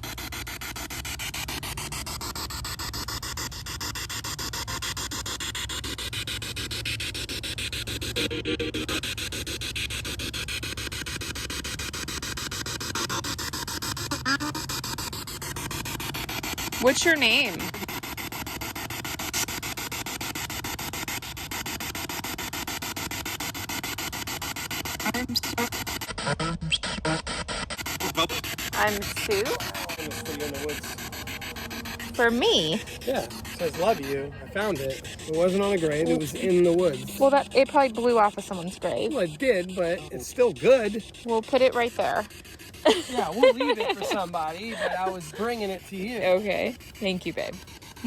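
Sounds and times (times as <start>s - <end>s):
pulsing radio static: 0.0s - 48.0s.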